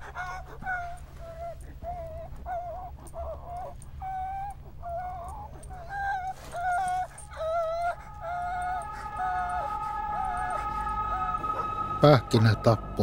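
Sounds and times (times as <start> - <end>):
low steady hum: 0.0 - 13.0
people wailing and sobbing: 0.0 - 13.0.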